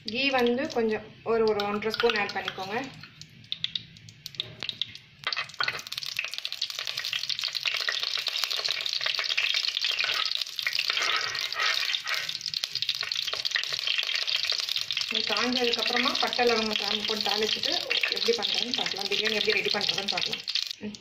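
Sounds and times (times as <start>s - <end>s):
ghee sizzling and crackling in oil: 0.0s - 21.0s.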